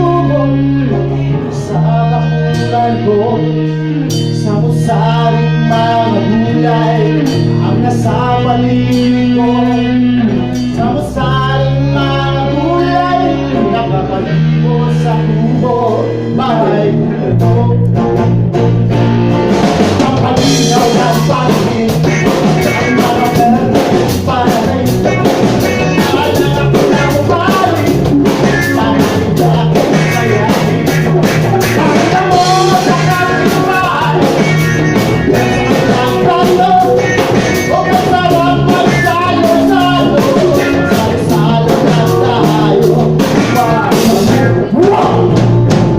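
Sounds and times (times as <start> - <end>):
drums: 0.0 - 45.9
live rock band playing: 0.0 - 45.9.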